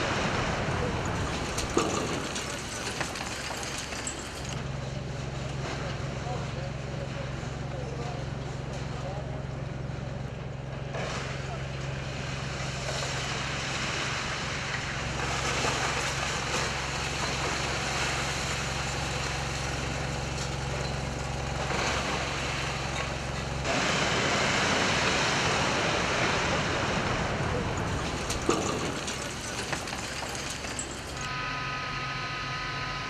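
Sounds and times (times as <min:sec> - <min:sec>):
heavy machine engine running: 0:00.0 - 0:33.0.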